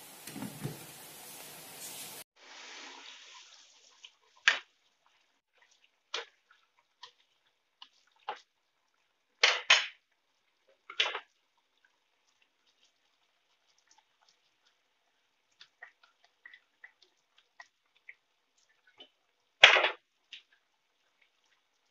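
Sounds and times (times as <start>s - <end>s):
food simmering in a wok: 0.0s - 21.9s.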